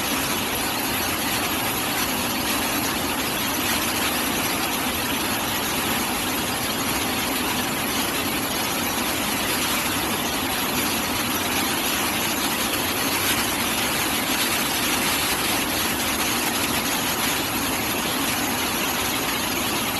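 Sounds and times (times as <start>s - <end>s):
rock drilling rig running: 0.0s - 19.9s.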